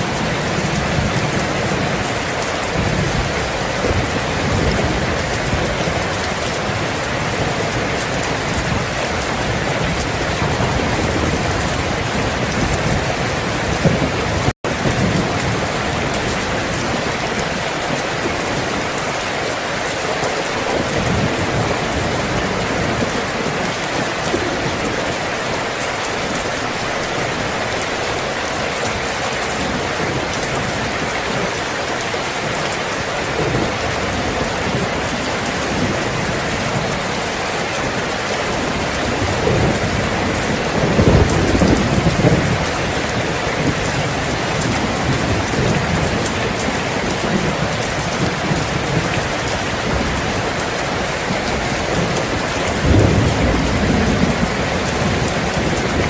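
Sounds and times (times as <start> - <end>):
low rolling thunder: 0.0 - 19.2, 20.2 - 25.6, 32.5 - 56.0
heavy rain falling: 0.0 - 56.0.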